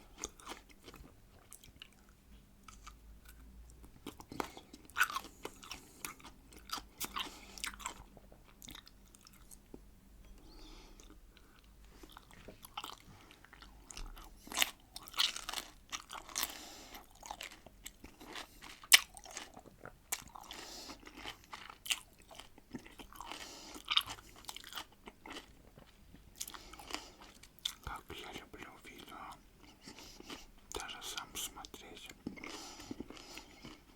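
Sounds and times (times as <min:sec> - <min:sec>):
crunching pickled cucumbers: 0:00.0 - 0:09.8, 0:11.0 - 0:33.9.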